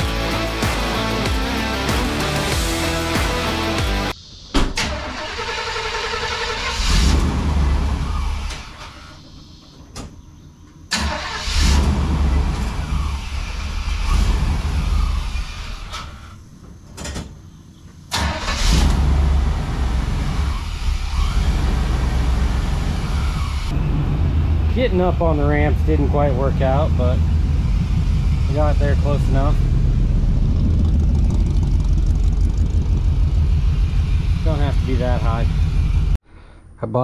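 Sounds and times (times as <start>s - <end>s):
truck engine running: 4.9s - 36.2s.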